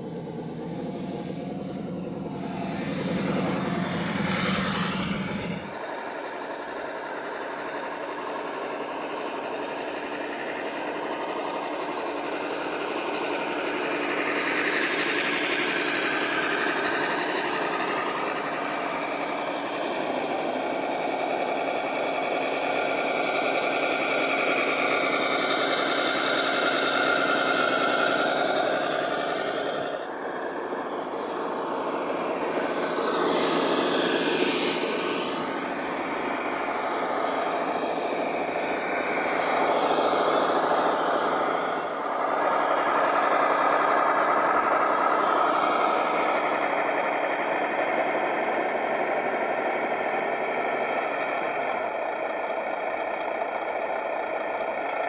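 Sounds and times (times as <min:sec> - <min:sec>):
toy truck motor whining: 0:08.5 - 0:55.0.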